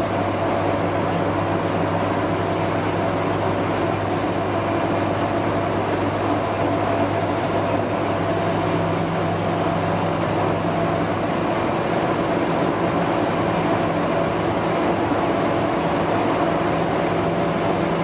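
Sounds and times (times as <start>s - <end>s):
bus engine hum: 0.0s - 18.0s
road noise: 0.0s - 18.0s.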